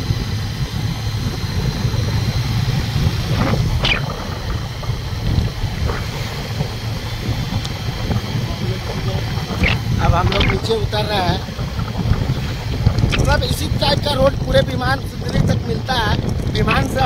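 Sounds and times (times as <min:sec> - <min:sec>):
motorcycle engine: 0:00.0 - 0:14.1
road noise: 0:00.0 - 0:14.5
wind rushing over microphone: 0:00.0 - 0:17.0.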